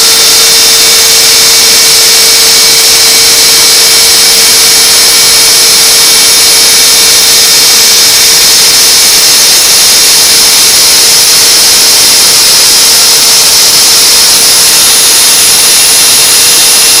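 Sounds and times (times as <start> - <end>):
router milling whine: 0.0 - 17.0.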